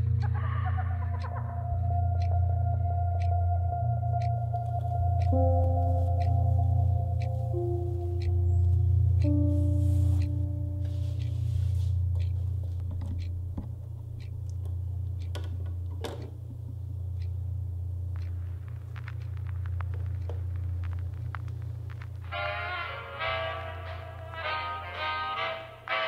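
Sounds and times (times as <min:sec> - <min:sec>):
steady low hum: 0:00.0 - 0:26.0
music: 0:01.1 - 0:16.4, 0:18.1 - 0:26.0.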